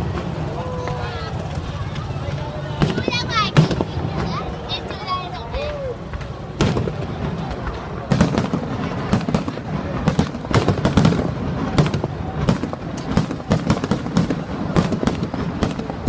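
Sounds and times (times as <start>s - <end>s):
fireworks bangs: 0.0s - 16.0s
rumble of distant bursts: 0.0s - 16.0s.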